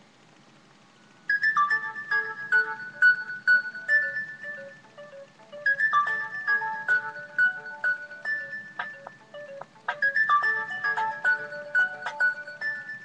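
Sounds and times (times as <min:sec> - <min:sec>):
mobile phone ringtone melody: 0:01.3 - 0:13.0.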